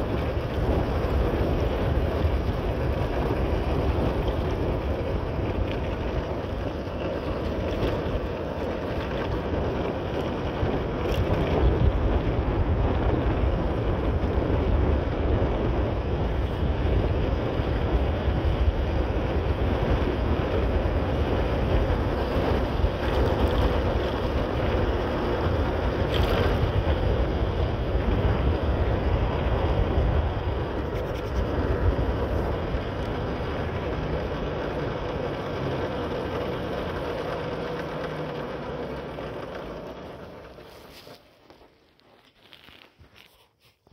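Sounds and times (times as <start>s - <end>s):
wind rushing over microphone: 0.0s - 41.1s
motorcycle engine: 0.0s - 41.6s
road noise: 0.0s - 43.9s.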